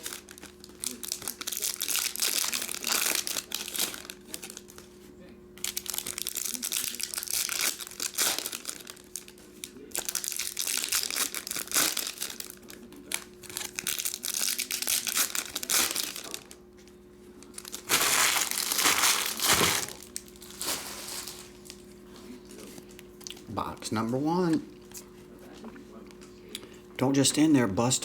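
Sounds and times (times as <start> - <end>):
foil wrappers crinkling and tearing: 0.0 - 23.4.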